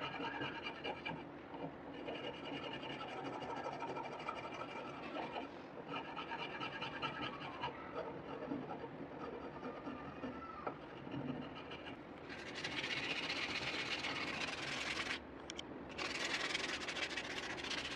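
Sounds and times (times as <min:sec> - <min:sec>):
hand file rasping on wood: 0:00.0 - 0:01.2, 0:02.0 - 0:15.2.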